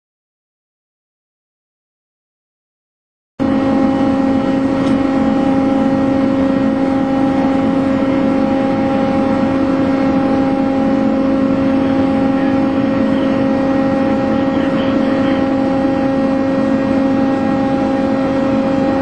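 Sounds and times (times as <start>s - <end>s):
ship machinery drone: 3.4s - 19.0s.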